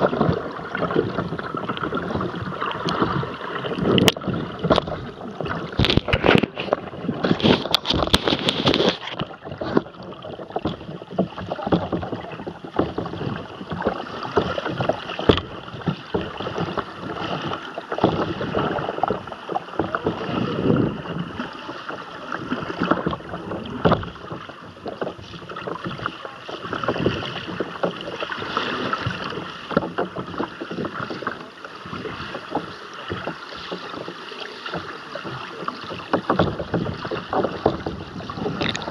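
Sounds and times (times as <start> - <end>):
muffled underwater river rush: 0.0 - 38.9.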